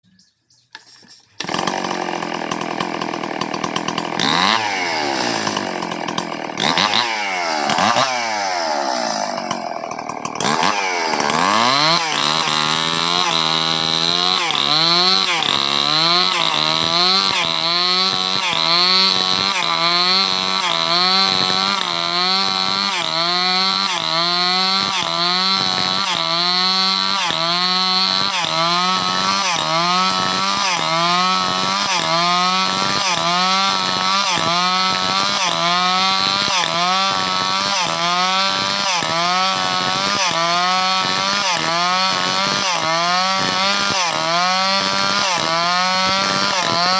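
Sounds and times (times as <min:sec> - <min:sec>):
chainsaw cutting wood: 0:00.7 - 0:46.9.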